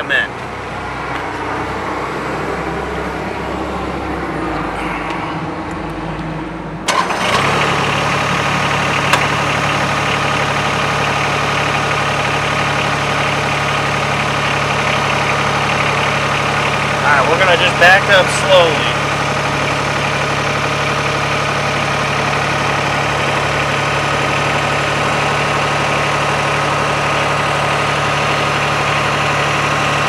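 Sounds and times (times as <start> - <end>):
tractor diesel engine starting and idling: 0.0 - 30.0.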